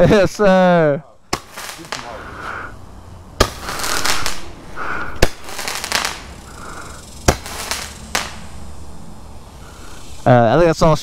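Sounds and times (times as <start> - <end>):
fireworks fizzing and crackling: 0.0 - 11.0
firework bangs: 1.3 - 10.2.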